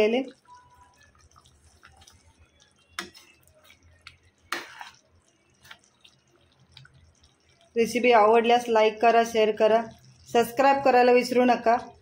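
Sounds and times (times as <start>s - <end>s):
wet squelches of stirred gravy: 0.0s - 12.0s.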